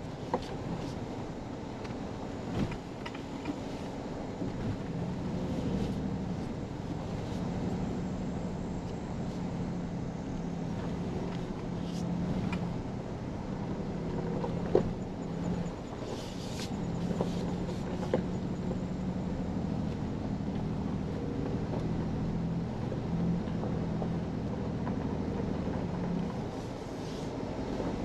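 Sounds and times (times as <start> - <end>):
engine droning: 0.0 - 28.0
tyres rumbling on gravel: 0.0 - 28.0.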